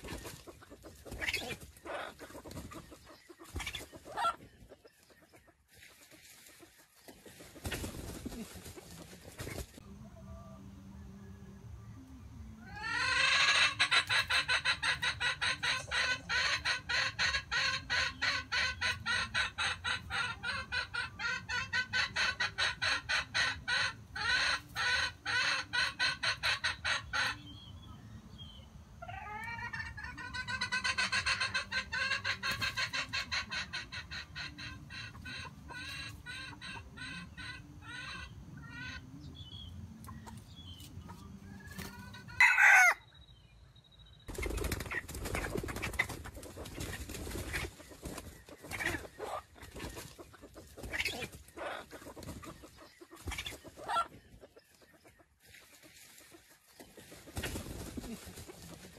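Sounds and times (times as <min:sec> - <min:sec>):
chicken clucking: 0:00.0 - 0:43.5, 0:44.3 - 0:58.9.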